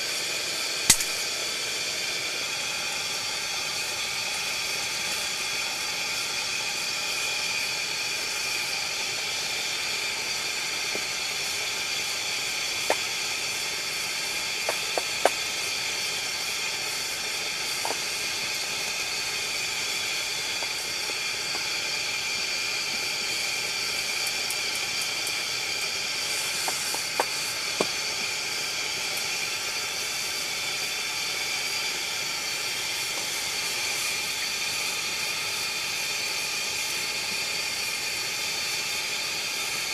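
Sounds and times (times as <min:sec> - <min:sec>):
heater burner hissing: 0:00.0 - 0:39.9.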